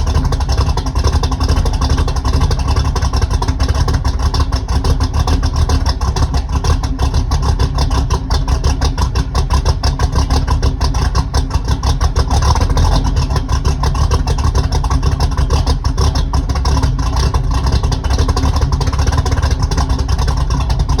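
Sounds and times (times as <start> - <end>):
v-eight engine idling: 0.0 - 21.0.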